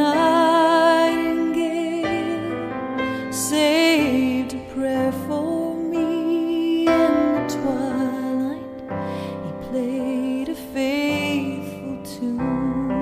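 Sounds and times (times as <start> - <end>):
slow keyboard ballad: 0.0 - 13.0.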